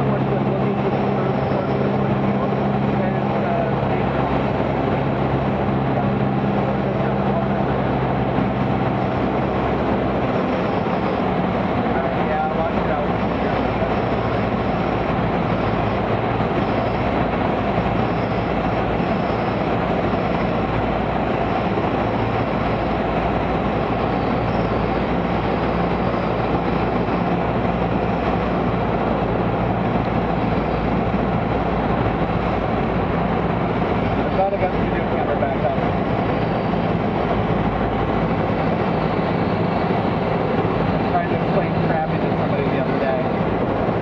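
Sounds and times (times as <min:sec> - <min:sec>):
aircraft piston engine drone: 0:00.0 - 0:44.0
rush of airflow: 0:00.0 - 0:44.0.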